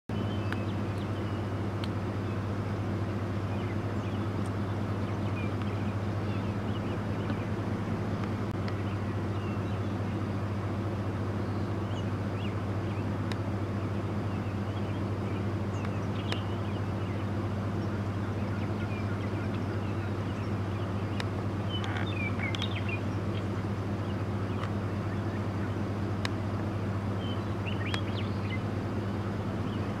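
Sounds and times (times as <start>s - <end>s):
small birds chirping: 0.1s - 30.0s
vehicle engine idling: 0.1s - 30.0s.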